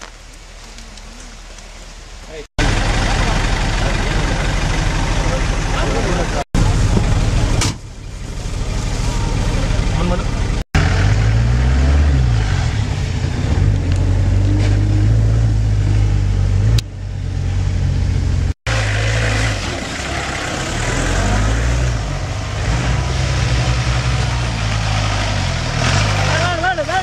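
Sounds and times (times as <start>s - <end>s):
engine running and revving: 2.6s - 27.0s.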